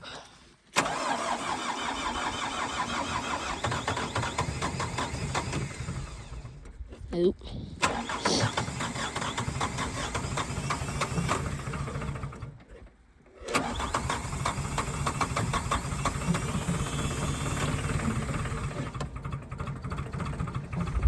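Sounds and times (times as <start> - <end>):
engine cranking by starter motor: 0.7 - 6.8, 7.8 - 21.0.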